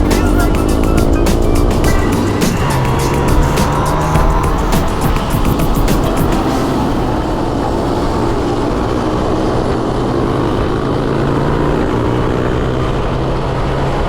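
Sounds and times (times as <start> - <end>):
motorcycle engine running: 0.0 - 13.6
wind and road noise: 0.0 - 14.0.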